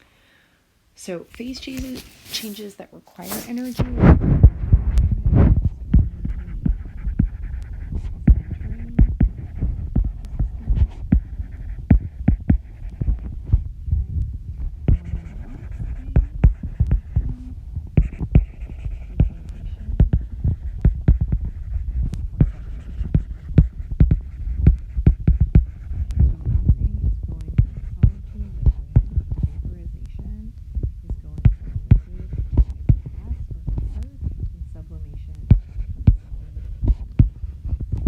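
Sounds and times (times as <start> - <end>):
steady low hum: 0.0 - 38.0
stylus tapping on tablet screen: 3.2 - 13.7, 14.8 - 38.0.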